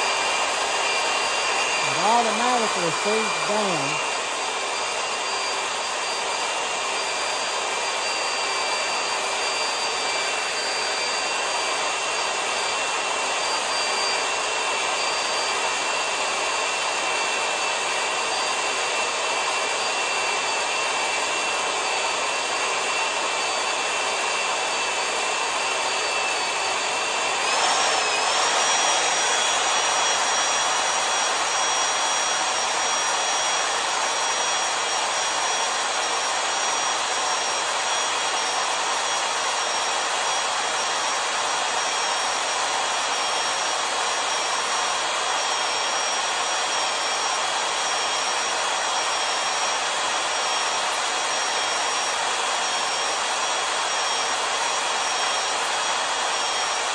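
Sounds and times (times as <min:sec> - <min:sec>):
valve seat cutter motor whine: 0:00.0 - 0:01.8, 0:04.0 - 0:56.9.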